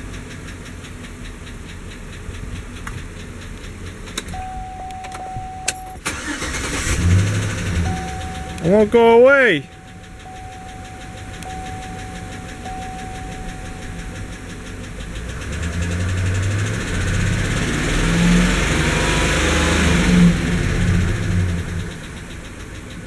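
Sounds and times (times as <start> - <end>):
engine lifter ticking: 0.0 - 23.0
engine running: 0.0 - 23.0.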